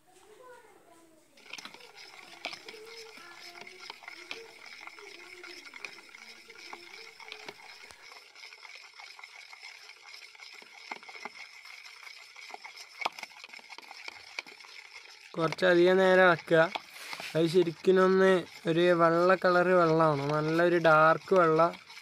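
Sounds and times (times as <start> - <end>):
water sloshing in a bucket: 1.4 - 22.0.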